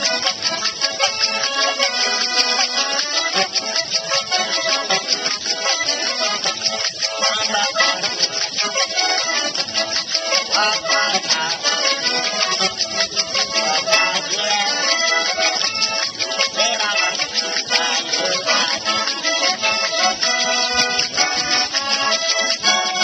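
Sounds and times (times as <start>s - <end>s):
accordion playing folk tune: 0.0s - 23.0s
shaker rattle: 0.0s - 23.0s.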